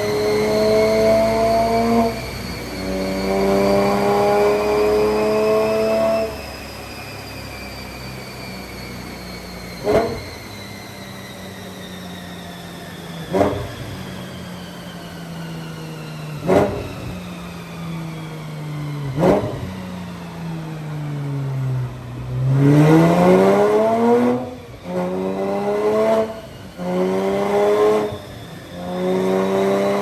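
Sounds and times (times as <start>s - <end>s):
race car engine revving: 0.0s - 7.1s, 8.0s - 11.4s, 13.0s - 30.0s
dyno rollers whine: 0.0s - 30.0s
engine throttle blips: 0.0s - 30.0s.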